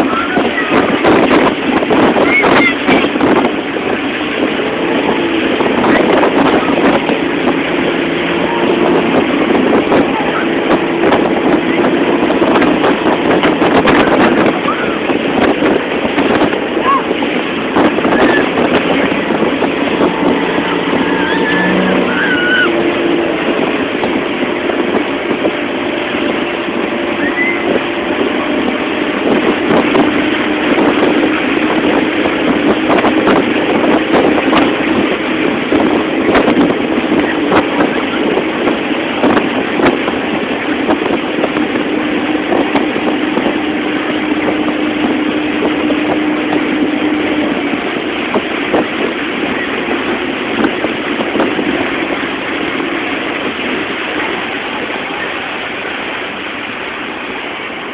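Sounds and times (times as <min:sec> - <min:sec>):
churning wake rushing: 0:00.0 - 0:57.9
motorboat engine running: 0:00.0 - 0:57.9
wind buffeting microphone: 0:00.0 - 0:57.9.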